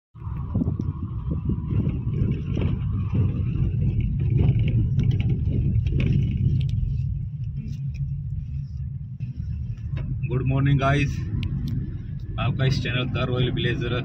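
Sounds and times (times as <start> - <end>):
car engine and tyres rumbling: 0.1 - 14.0.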